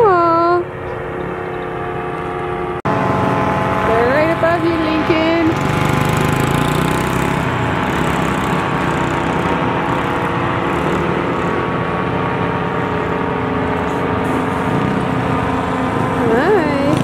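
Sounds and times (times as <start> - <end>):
small engine droning: 0.0 - 17.0.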